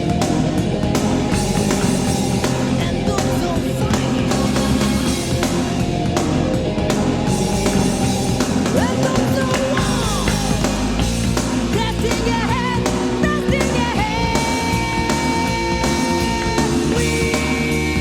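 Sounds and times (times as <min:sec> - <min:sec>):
heavy metal music: 0:00.0 - 0:18.0
melodic guitar lead line: 0:00.0 - 0:18.0.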